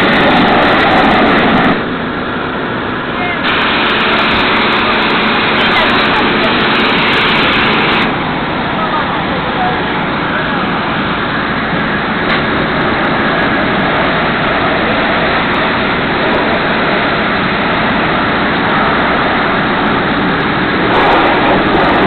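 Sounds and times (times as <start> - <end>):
car wash machinery rushing: 0.0 - 22.0.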